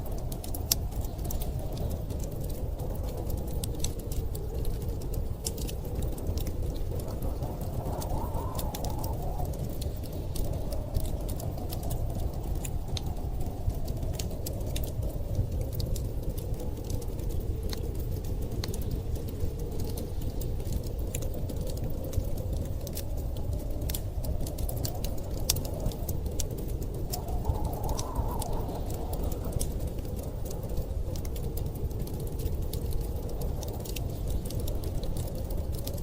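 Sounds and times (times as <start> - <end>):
blizzard wind howling: 0.0 - 36.0
fireplace crackling: 0.0 - 36.0.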